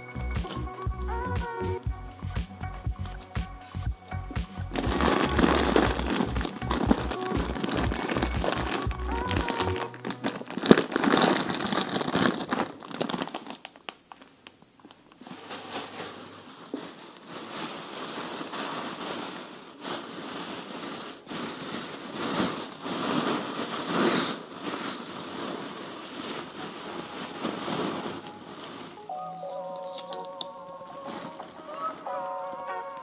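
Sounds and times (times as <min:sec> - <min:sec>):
plastic bags crinkling: 0:04.5 - 0:33.0.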